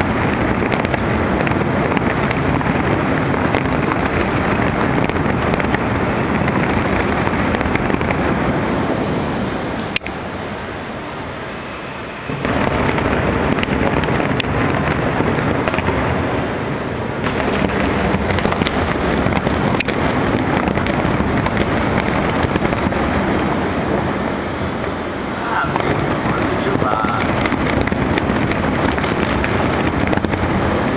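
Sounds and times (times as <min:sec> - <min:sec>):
sharp firework cracks: 0:00.0 - 0:10.2, 0:12.3 - 0:30.9
fireworks rumbling bursts: 0:00.0 - 0:30.9.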